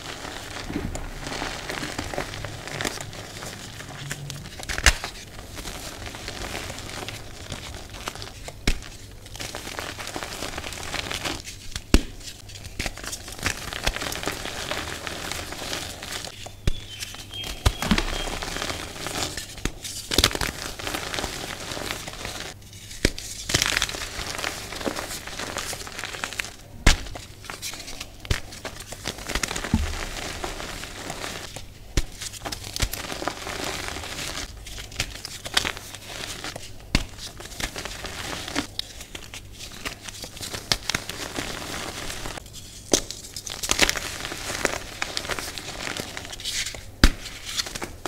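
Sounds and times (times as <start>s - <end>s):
hands crumbling chalk: 0.0s - 48.0s.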